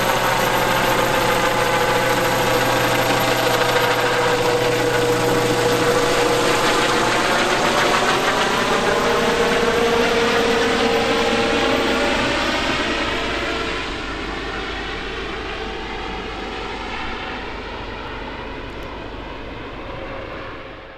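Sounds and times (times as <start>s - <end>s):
helicopter whine and rotor noise: 0.0s - 20.9s.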